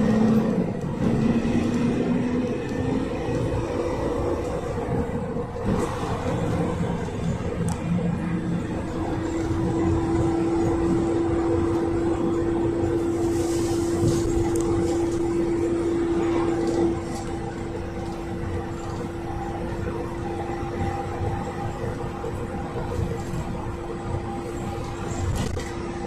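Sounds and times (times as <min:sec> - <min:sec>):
droning whine: 0:00.0 - 0:26.0
minibus engine and road rumble: 0:00.0 - 0:26.0.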